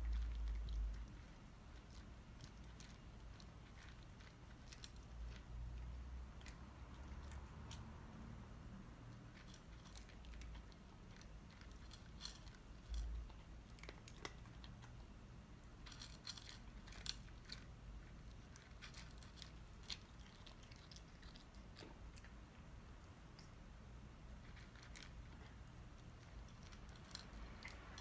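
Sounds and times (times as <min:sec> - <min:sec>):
cat chewing dry kibble: 0:00.0 - 0:28.0.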